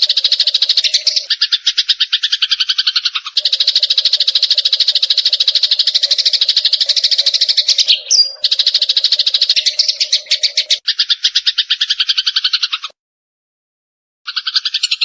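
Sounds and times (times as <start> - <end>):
sparrow chattering: 0.0 - 13.0, 14.3 - 15.0.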